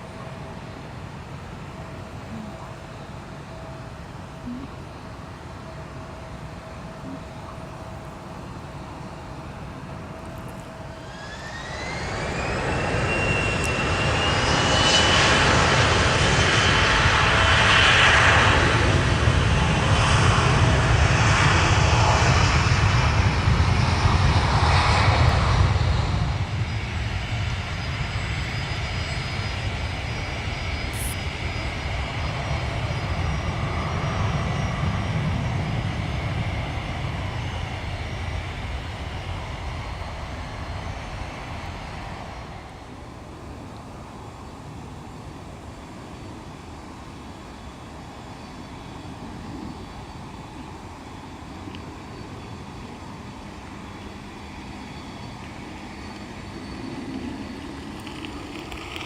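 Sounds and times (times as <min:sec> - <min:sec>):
airplane engines running: 0:00.0 - 0:59.0.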